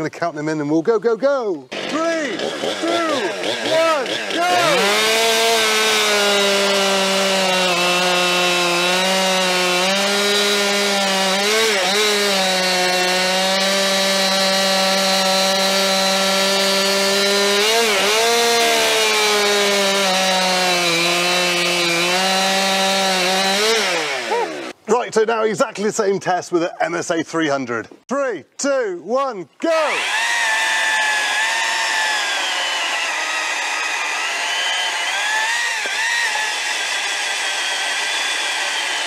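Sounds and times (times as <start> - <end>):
chainsaw cutting log: 1.7 - 24.8, 29.6 - 39.0.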